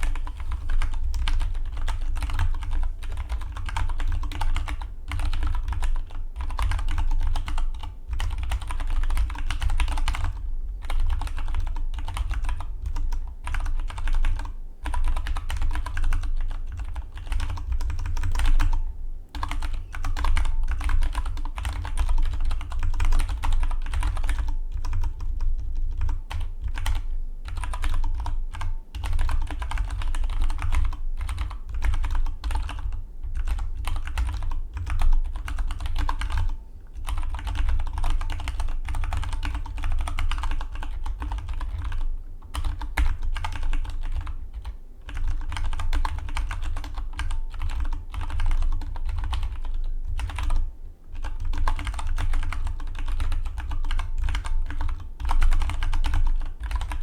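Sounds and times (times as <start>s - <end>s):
fast typing on mechanical keyboard: 0.0s - 57.0s.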